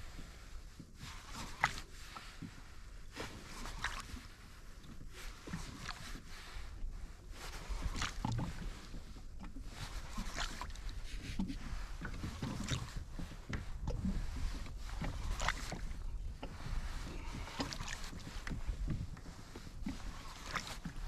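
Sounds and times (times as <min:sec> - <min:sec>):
water lapping against a kayak hull: 0:00.0 - 0:21.0.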